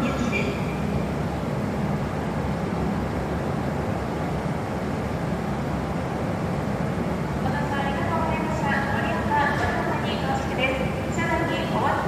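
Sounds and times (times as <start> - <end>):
train rumbling and hissing at platform: 0.0 - 12.0.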